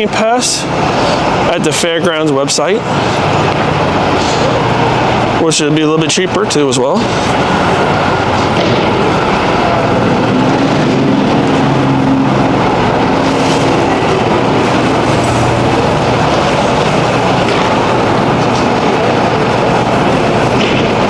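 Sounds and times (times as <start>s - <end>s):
loud rushing noise: 0.0s - 21.0s.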